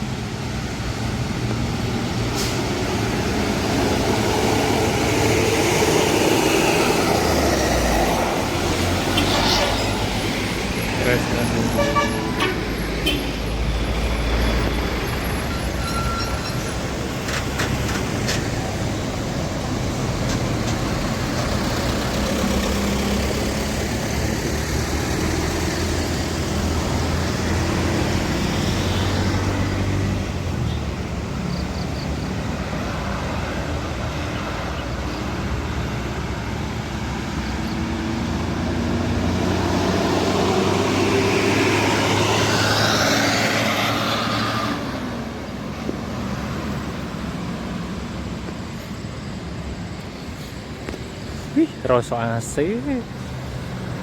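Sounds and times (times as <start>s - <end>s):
diesel engines rumbling: 0.0s - 54.0s.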